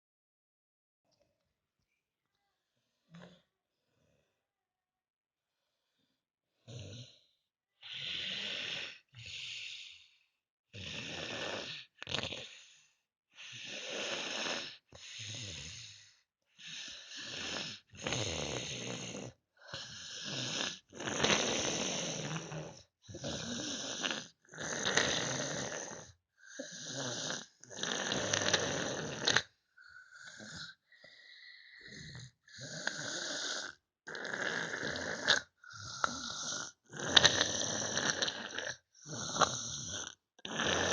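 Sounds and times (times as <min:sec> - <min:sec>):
loud snoring: 0:06.6 - 0:40.9
whistling snores: 0:06.6 - 0:40.9.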